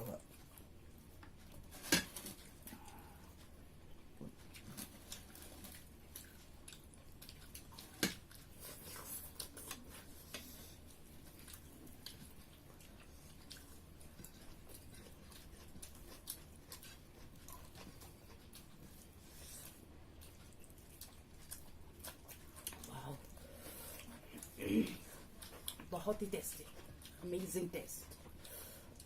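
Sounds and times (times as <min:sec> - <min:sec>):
people chewing: 0:00.0 - 0:29.0.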